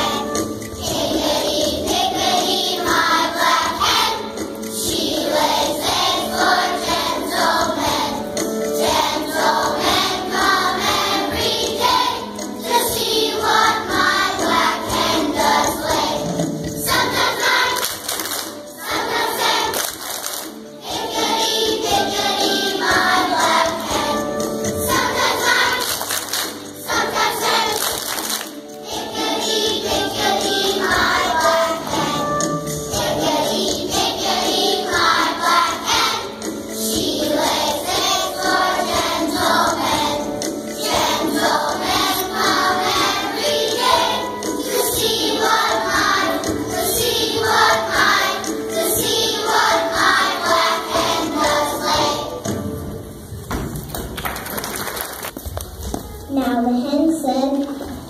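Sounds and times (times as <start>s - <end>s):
children's choir singing: 0.0s - 53.3s
backing music: 0.0s - 58.0s.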